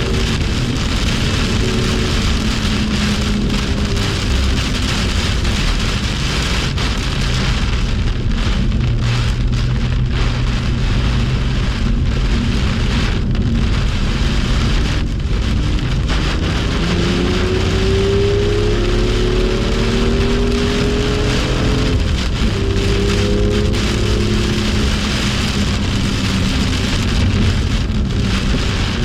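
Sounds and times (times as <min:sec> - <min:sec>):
car engine droning: 0:00.0 - 0:29.0
heavy rain: 0:00.0 - 0:29.0.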